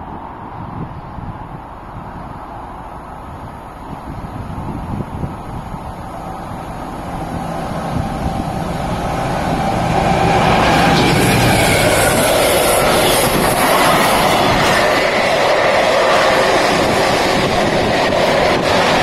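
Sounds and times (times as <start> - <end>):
train passing: 0.0 - 19.0.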